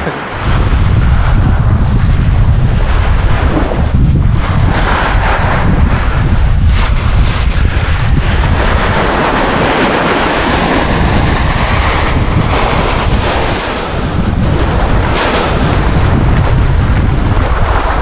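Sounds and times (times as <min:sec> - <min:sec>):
small waves washing on sand: 0:00.0 - 0:18.0
wind buffeting microphone: 0:00.2 - 0:18.0.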